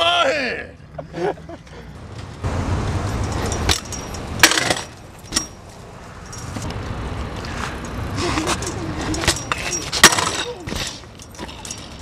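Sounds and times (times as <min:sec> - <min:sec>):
bike rolling on pavement: 0:01.0 - 0:12.0.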